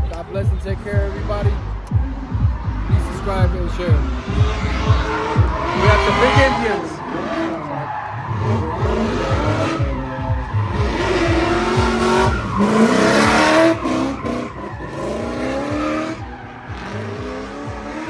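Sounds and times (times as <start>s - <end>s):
car engine revving: 0.0s - 18.0s
tyres skidding and squealing: 0.0s - 18.0s.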